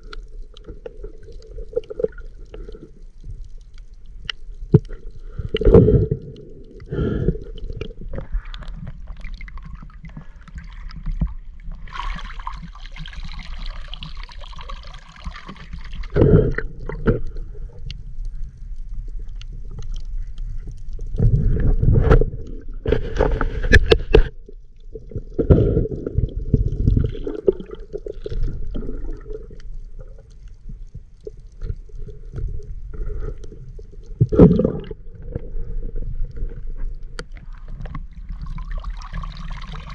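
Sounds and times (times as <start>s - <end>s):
underwater gurgling: 0.0s - 39.9s.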